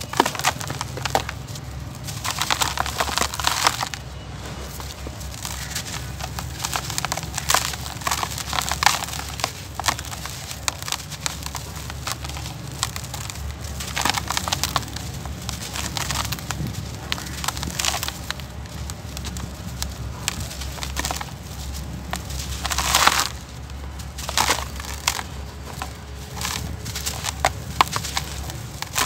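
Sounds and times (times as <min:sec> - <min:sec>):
dirt crushed by hand: 0:00.0 - 0:29.0
soil pouring: 0:00.0 - 0:29.0.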